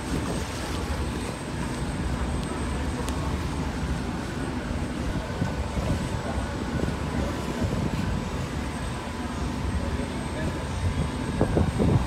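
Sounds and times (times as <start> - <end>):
ferry engine rumbling: 0.0 - 12.0
rushing water: 0.0 - 12.0
wind: 0.0 - 12.0.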